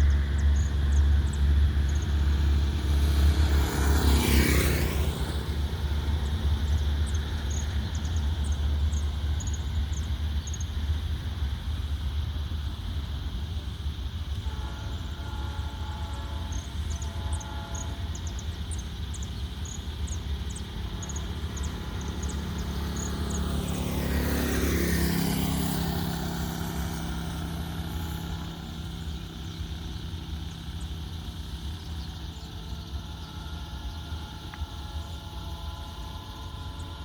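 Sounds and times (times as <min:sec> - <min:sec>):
vehicle passing close by: 0:00.0 - 0:15.4, 0:17.8 - 0:37.0.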